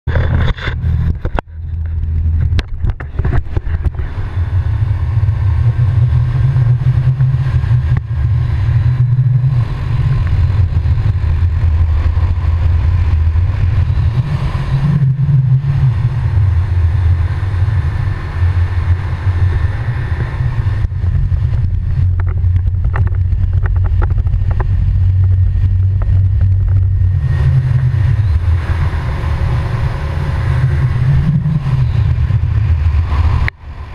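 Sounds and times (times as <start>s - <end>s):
quad bike engine running: 0.0s - 33.9s
wind rumble on microphone: 0.0s - 33.9s.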